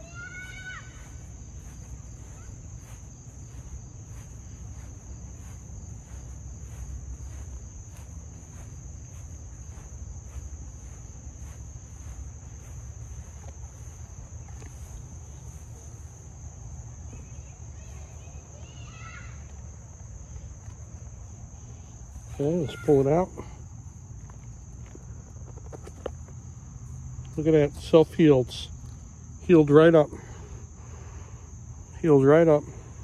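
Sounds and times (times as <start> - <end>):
footsteps on grass: 0.0 - 30.8
crickets trilling: 0.0 - 33.0.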